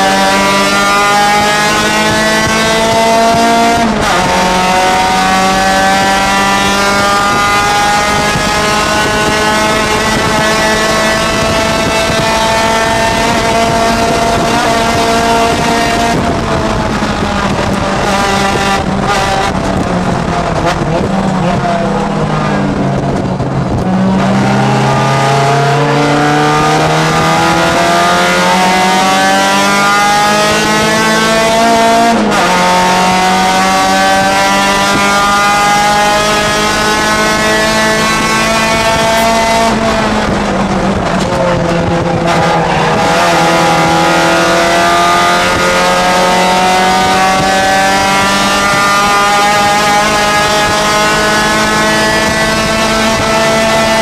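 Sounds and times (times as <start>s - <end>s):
race car engine at high revs: 0.0s - 54.0s
wind and road noise: 0.0s - 54.0s.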